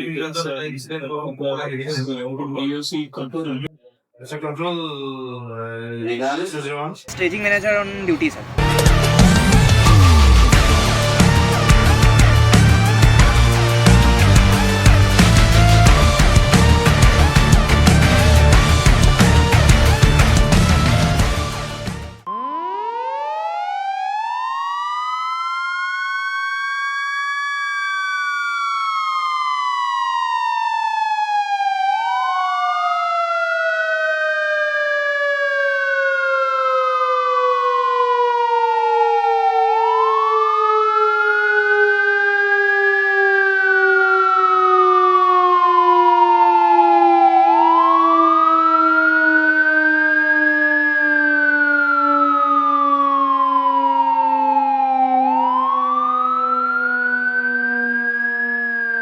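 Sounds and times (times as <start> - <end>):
warning siren wailing: 7.1 - 59.0.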